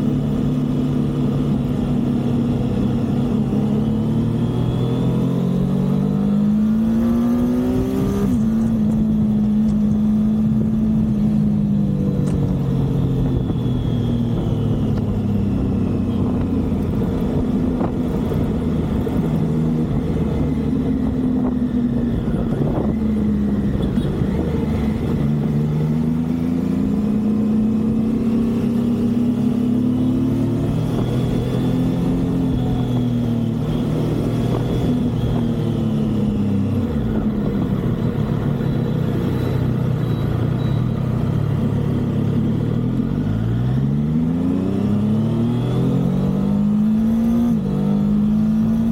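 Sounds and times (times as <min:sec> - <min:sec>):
motorcycle engine revving: 0:00.0 - 0:48.9
road and wind noise: 0:00.0 - 0:48.9.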